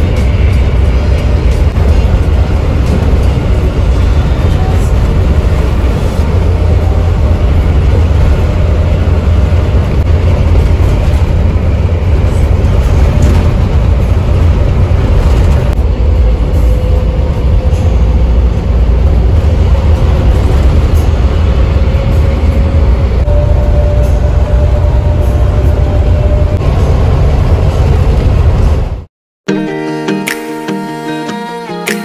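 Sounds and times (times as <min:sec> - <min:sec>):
bus engine and road rumble: 0:00.0 - 0:29.1.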